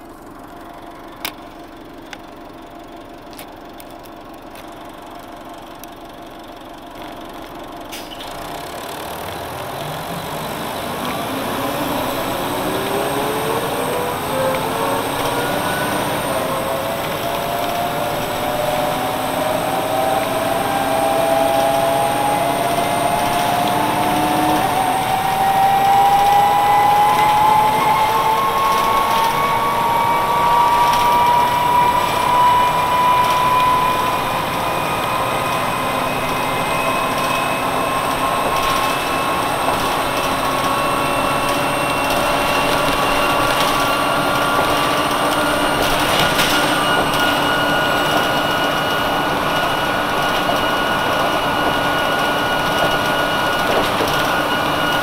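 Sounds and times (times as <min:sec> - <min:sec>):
bus pulling away: 0:00.0 - 0:55.0
rising engine whine: 0:00.0 - 0:55.0.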